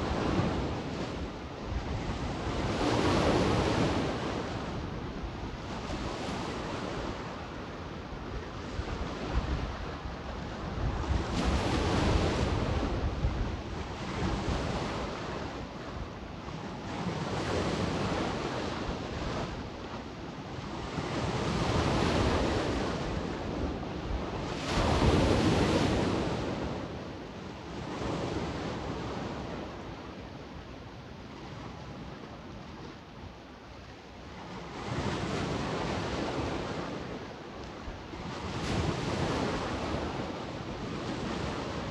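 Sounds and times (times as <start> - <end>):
sea waves on shore: 0.0 - 41.9
wind buffeting microphone: 0.0 - 41.9.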